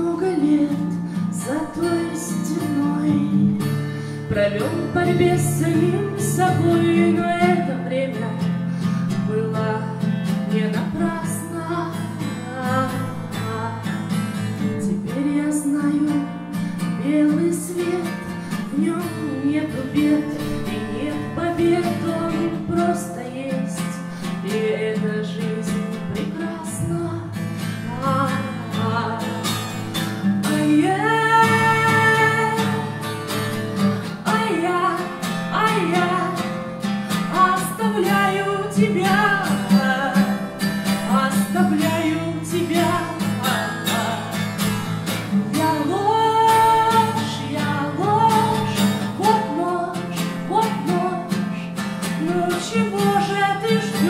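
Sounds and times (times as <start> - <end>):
strummed acoustic guitar: 0.0 - 54.0
woman singing: 0.0 - 54.0.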